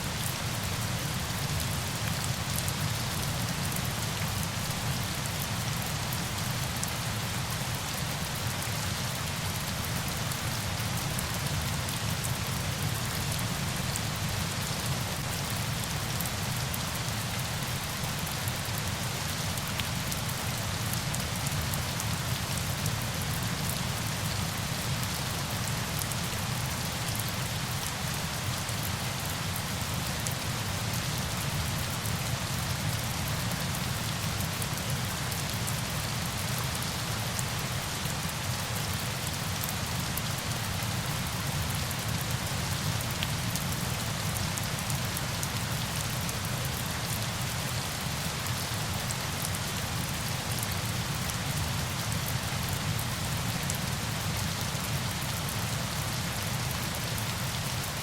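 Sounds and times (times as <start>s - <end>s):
rain falling on surfaces: 0.0s - 58.0s.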